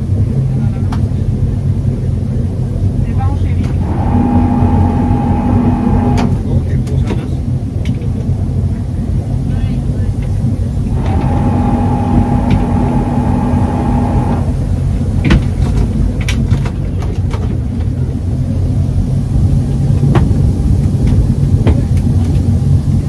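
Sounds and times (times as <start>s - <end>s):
boat engines rumbling: 0.0s - 23.0s
steady whine: 0.0s - 23.0s.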